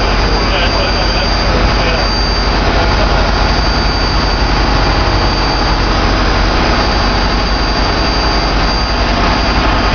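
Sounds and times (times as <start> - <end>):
engine droning: 0.0 - 9.9
high whine: 0.0 - 9.9.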